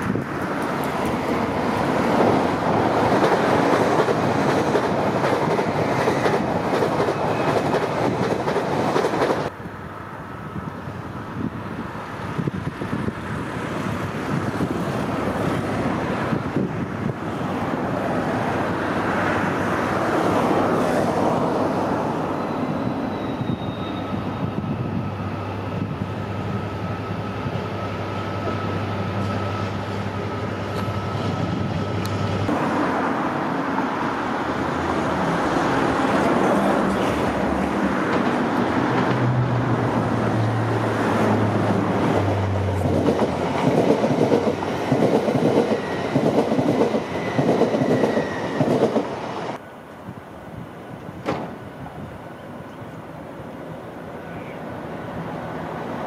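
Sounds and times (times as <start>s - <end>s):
diesel locomotive engine drone: 0.0s - 56.0s
rail noise: 0.0s - 56.0s.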